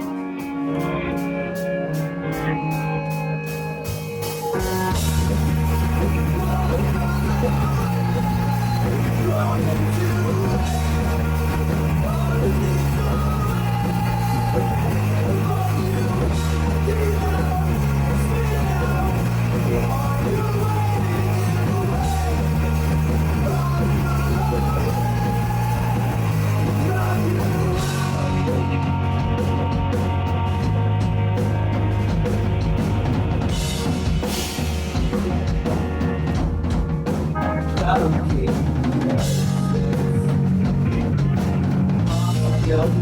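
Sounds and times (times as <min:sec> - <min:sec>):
punk rock band playing: 0:00.0 - 0:43.0.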